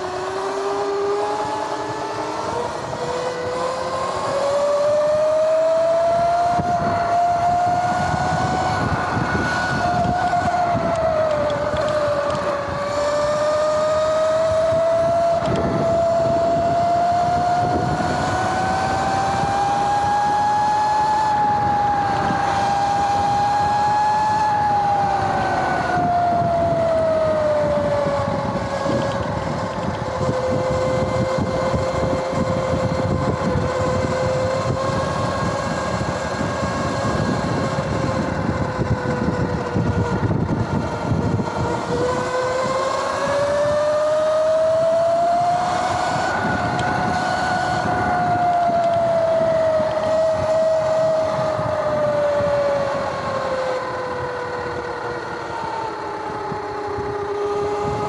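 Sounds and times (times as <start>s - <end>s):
electric motor and chain whine: 0.0s - 58.0s
wind and tyre noise: 0.0s - 58.0s.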